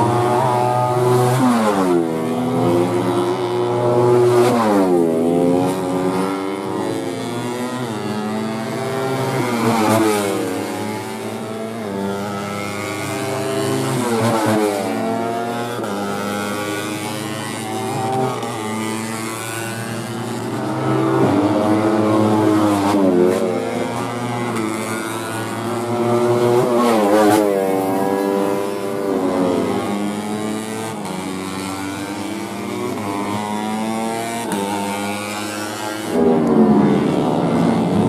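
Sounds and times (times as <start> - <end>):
motorcycle engines at high revs: 0.0 - 38.0.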